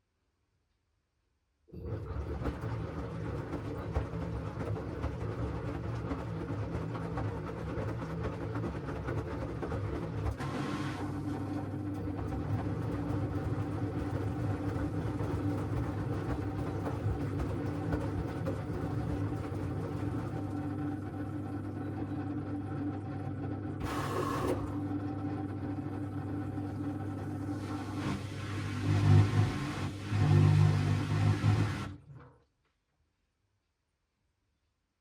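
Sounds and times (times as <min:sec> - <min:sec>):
washing machine motor hum: 0:01.8 - 0:32.3.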